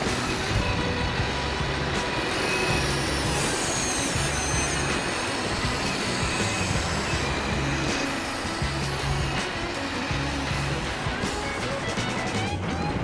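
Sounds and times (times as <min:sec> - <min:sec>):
small electric motors whirring: 0:00.0 - 0:12.5.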